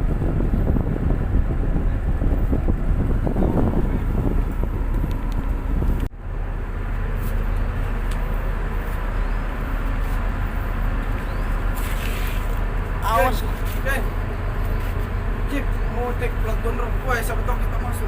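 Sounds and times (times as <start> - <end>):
diesel engine low rumble: 0.0 - 18.0.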